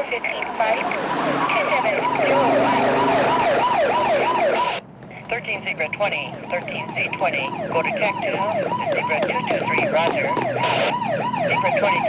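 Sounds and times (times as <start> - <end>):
police siren yelping: 0.0 - 4.8, 5.9 - 12.0.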